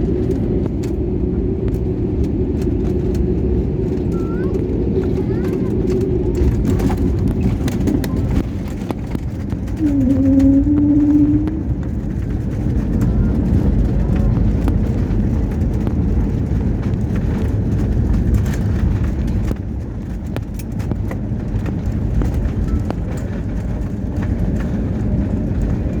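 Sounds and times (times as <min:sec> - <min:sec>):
airliner rumbling on runway: 0:00.0 - 0:26.0.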